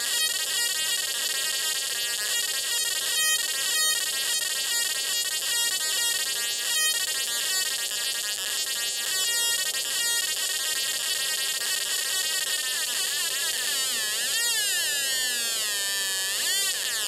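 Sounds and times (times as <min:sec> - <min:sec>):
harsh square-wave buzzing: 0:00.0 - 0:17.0.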